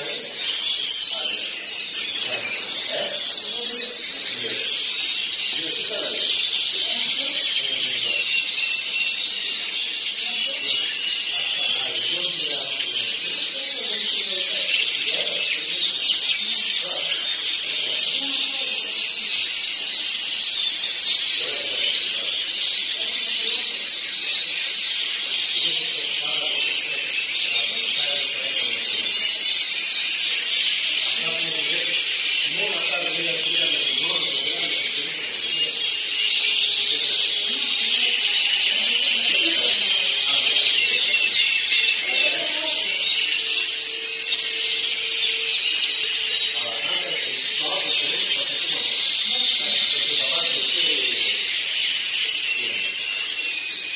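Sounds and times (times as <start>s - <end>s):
canary trilling song: 0.0s - 53.9s.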